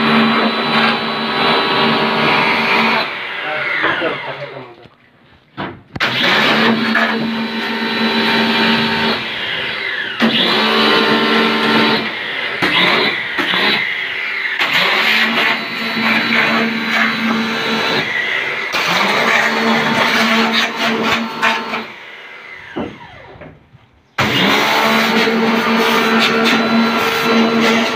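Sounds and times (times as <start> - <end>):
pressure washer motor and pump: 0.0 - 4.6, 6.0 - 27.9.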